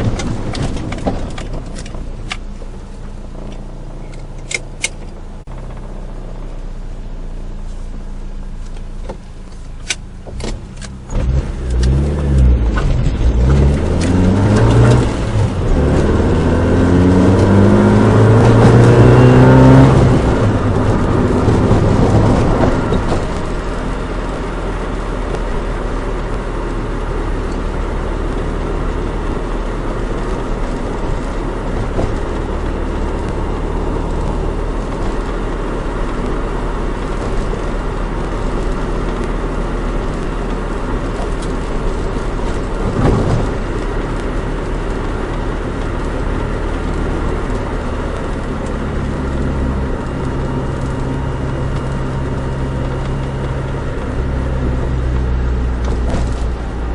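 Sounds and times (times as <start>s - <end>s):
car engine and road noise: 0.0s - 56.9s.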